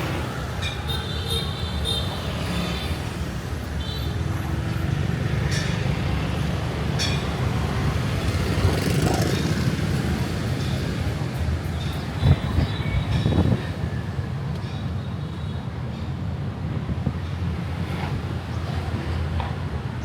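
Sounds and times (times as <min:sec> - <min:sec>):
traffic engine rumble: 0:00.0 - 0:20.0.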